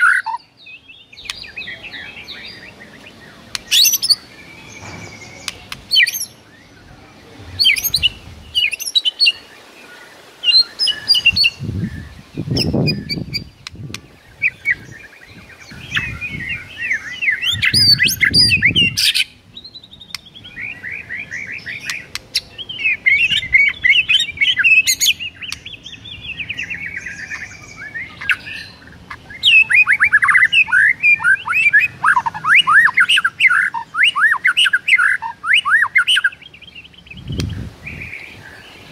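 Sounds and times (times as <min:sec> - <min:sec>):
bird singing whistles and chatters: 0:00.0 - 0:09.5, 0:10.4 - 0:38.6.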